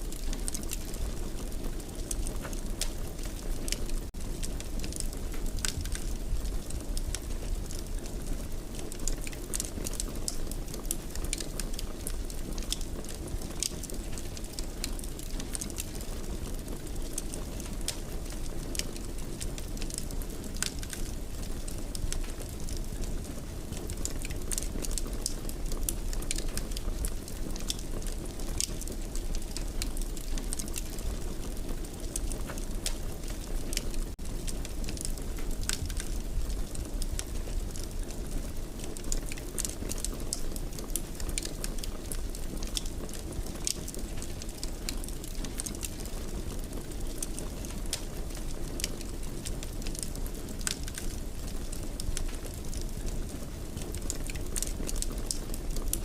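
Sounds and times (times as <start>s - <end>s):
fire crackling: 0.0s - 56.0s
fire rumbling: 0.0s - 56.0s.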